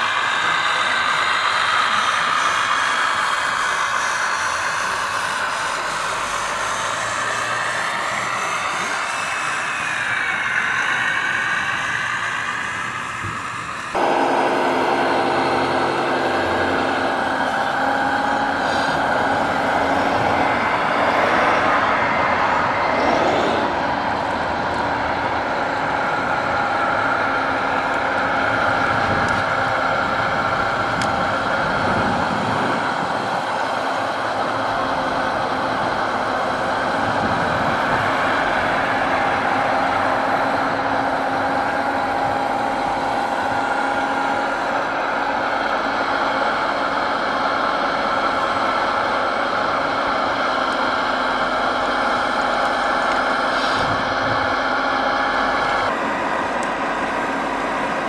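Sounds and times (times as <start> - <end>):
model excavator mechanical drone: 0.0 - 58.0.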